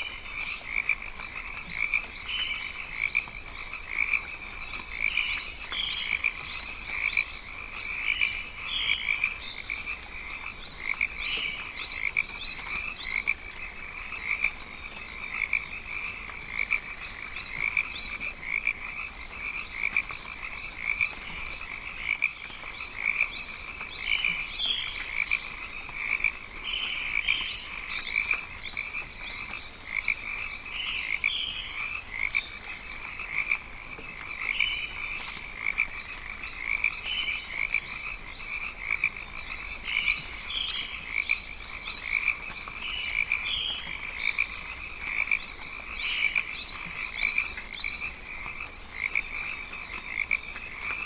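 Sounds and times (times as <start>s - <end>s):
chorus of frogs calling: 0.0s - 51.0s.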